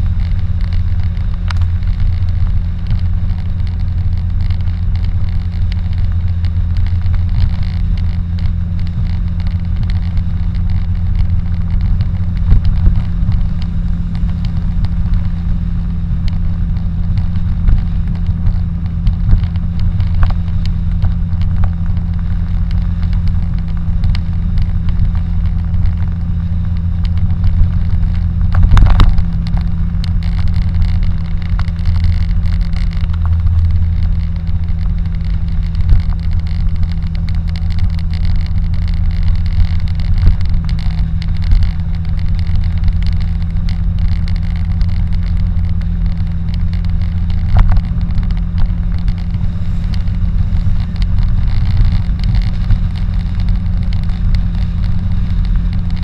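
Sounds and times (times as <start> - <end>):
car engine and tyre drone: 0.0 - 56.0
loud rumble: 0.0 - 56.0
small clicks: 0.1 - 56.0.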